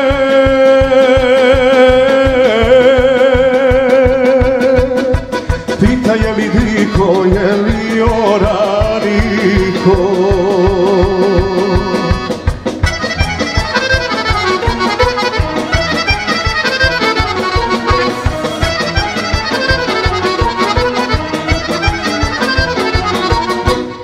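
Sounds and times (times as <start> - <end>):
drum kit beat: 0.0 - 24.0
accordion fast runs: 4.4 - 24.0.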